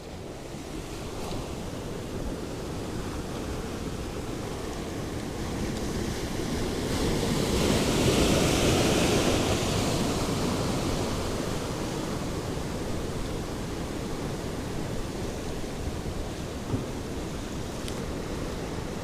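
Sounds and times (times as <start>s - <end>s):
sea surf washing ashore: 0.0s - 19.0s.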